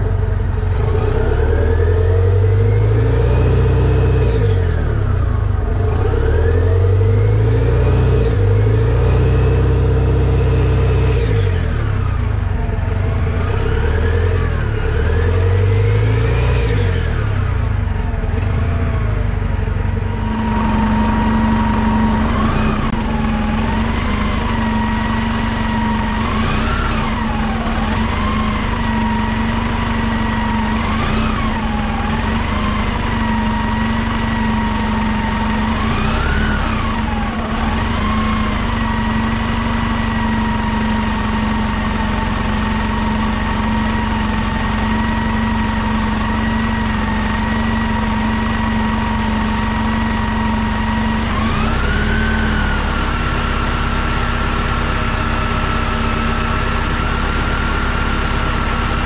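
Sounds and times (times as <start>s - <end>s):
bus engine revving and idling: 0.0s - 59.0s.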